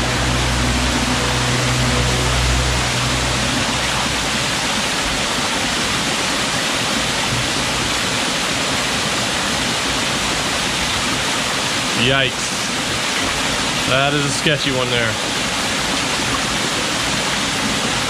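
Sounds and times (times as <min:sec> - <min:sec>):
waterfall rushing over boulders: 0:00.0 - 0:18.0.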